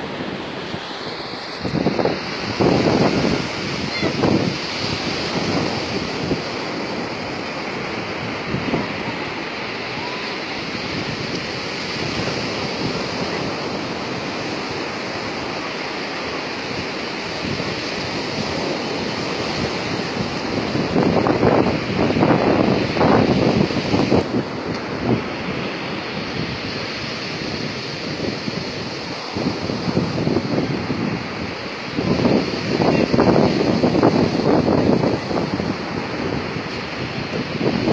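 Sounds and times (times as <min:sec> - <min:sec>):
sea surf washing onto beach: 0:00.0 - 0:37.9
wind buffeting microphone: 0:00.0 - 0:37.9.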